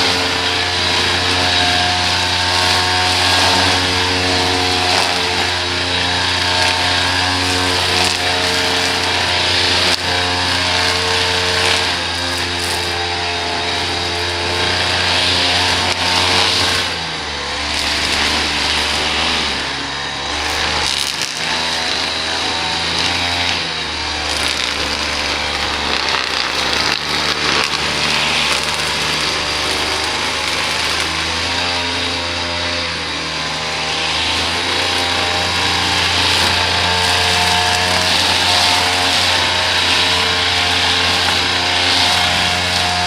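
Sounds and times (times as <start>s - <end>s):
hissing cutting noise: 0.0s - 43.0s
small petrol engine running: 0.0s - 43.0s.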